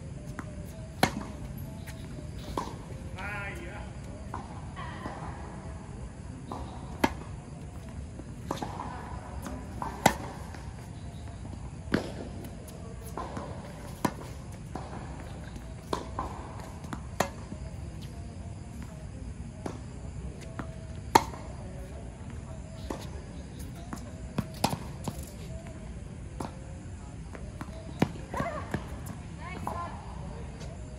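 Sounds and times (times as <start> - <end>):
steady low hum: 0.0 - 30.9
tennis ball bounces: 0.2 - 30.9.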